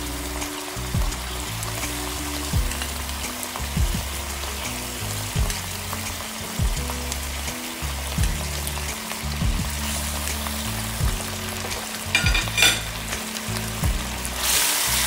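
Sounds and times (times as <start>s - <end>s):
background music with thumping beat: 0.0s - 14.4s
sauce bubbling and sizzling in wok: 0.0s - 15.0s.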